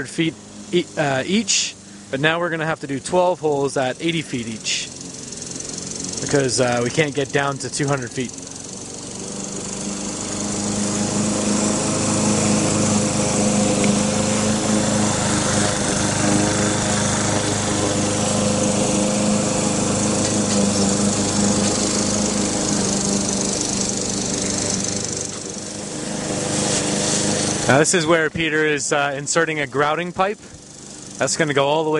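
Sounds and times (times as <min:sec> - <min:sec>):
drilling rig engine running: 0:00.0 - 0:31.9.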